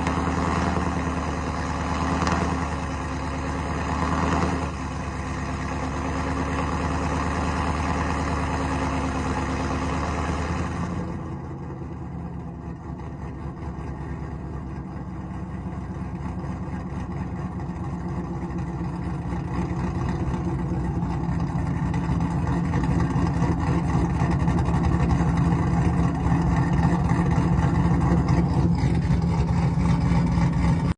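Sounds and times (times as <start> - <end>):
truck engine idling with loping beat: 0.0 - 30.9.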